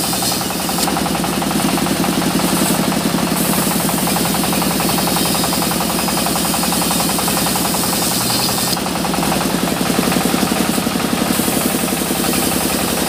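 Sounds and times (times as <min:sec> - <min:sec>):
sawmill engine knocking: 0:00.0 - 0:13.0.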